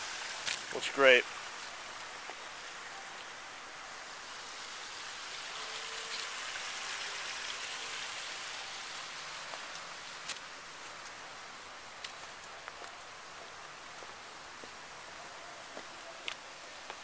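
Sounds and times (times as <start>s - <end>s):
waterfall splashing over boulders: 0.0s - 17.0s.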